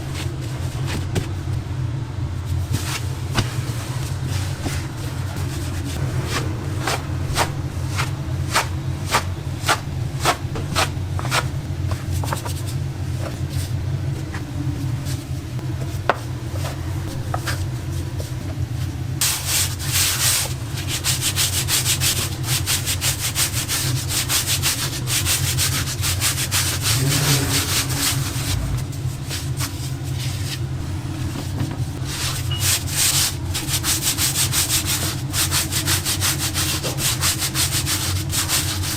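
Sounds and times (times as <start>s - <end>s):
low hum: 0.0s - 33.6s
rhythmic rubbing and scraping: 2.4s - 38.9s.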